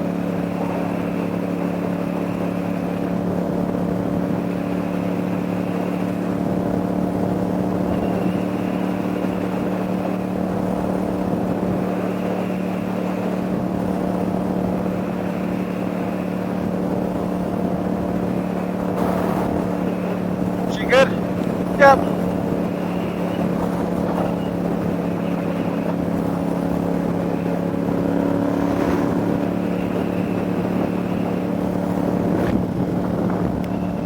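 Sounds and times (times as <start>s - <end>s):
road and wind noise: 0.0s - 34.0s
vehicle engine droning: 0.0s - 34.0s.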